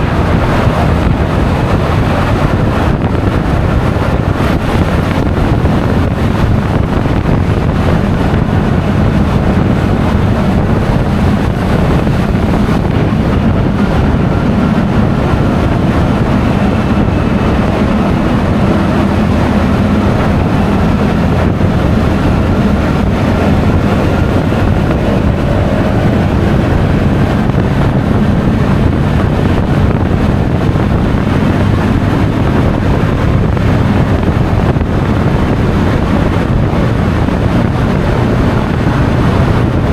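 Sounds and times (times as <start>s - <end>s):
scooter engine running: 0.0s - 39.9s
wind rushing over microphone: 0.0s - 39.9s.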